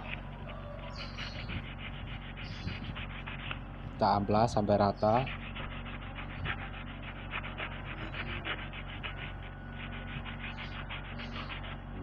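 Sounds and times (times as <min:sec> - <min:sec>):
sandpaper scratching brake lining: 0:00.0 - 0:12.0.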